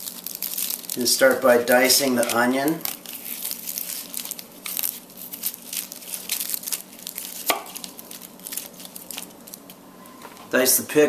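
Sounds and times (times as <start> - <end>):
knife cutting onion crunching: 0.0 - 9.8.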